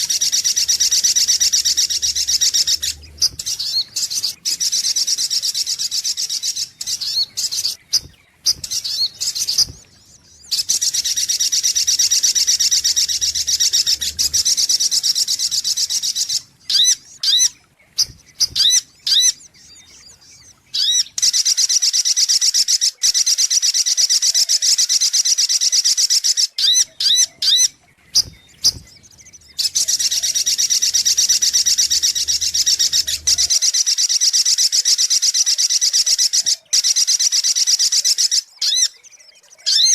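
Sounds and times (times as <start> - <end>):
bird trills: 0.0 - 39.9.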